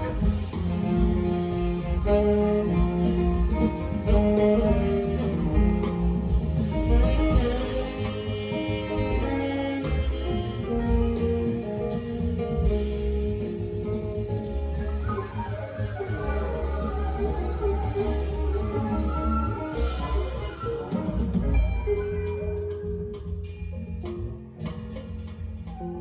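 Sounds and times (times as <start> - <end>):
jazz group playing: 0.0 - 26.0.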